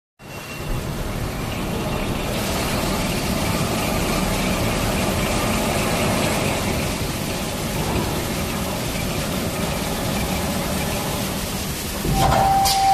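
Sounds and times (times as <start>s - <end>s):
machine humming and clattering: 0.3s - 12.9s.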